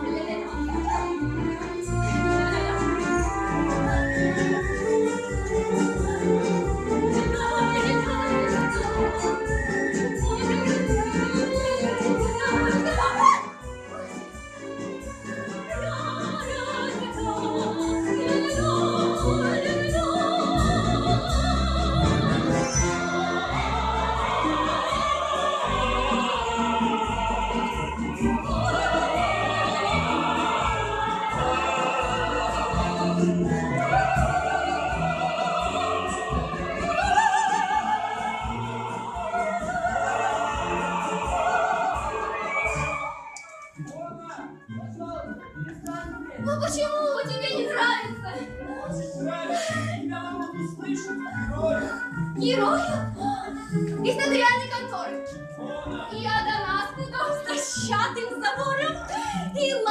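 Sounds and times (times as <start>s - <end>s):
opera singing with vibrato: 0.0s - 13.8s, 15.3s - 43.8s, 45.0s - 59.9s
orchestral accompaniment: 0.0s - 59.9s.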